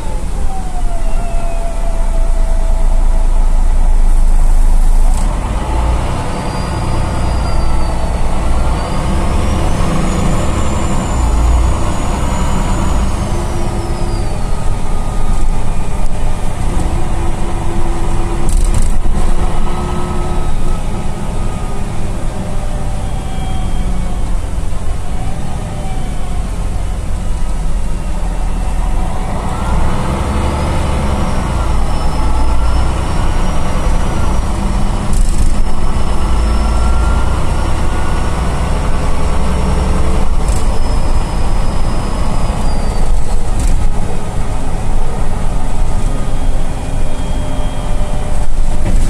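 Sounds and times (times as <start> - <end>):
bus engine rumbling: 0.0 - 49.0
high drivetrain whine: 0.0 - 49.0.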